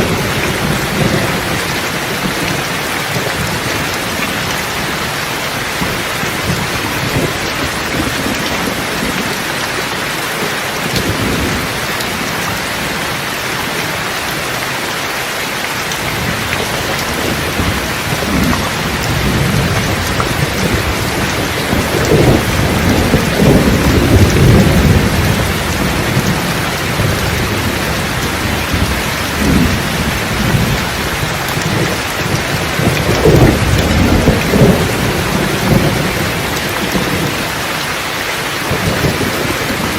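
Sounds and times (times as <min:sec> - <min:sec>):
rolling thunder: 0:00.0 - 0:10.0, 0:16.0 - 0:37.7, 0:38.6 - 0:39.9
heavy rain: 0:00.0 - 0:39.9.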